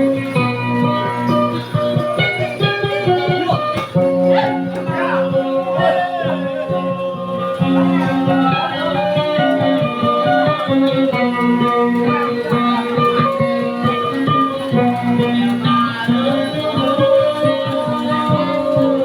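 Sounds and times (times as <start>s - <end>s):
plucked string melody: 0.0s - 19.0s.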